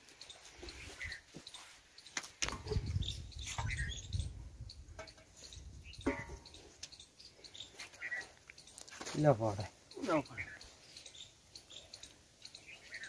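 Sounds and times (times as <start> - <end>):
faint bird chirps: 0.1 - 13.0.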